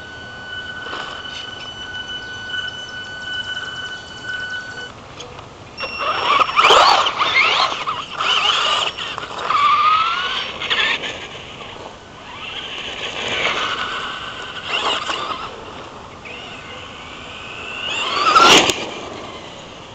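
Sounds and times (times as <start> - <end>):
electric motor whining: 0.0 - 5.0, 5.8 - 19.9
tyres skidding: 0.0 - 19.9.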